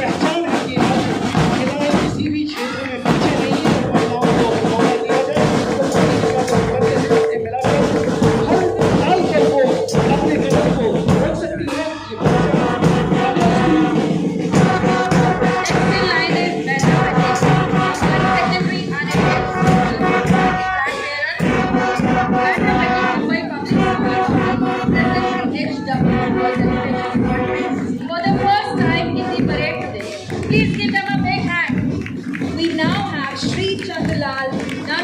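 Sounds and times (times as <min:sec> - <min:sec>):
bass drum: 0:00.0 - 0:35.0
marching band brass horns: 0:00.0 - 0:35.0
side drums: 0:00.0 - 0:35.0.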